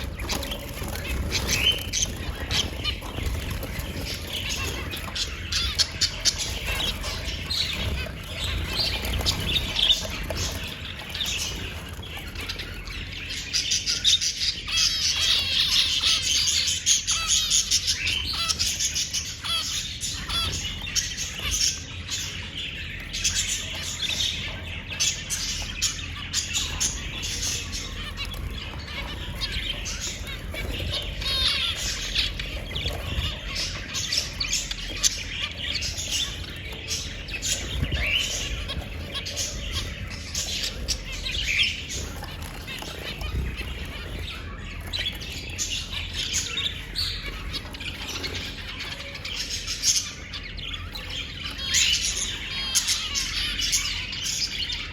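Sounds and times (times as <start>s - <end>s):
small parrots chattering: 0.0s - 54.9s.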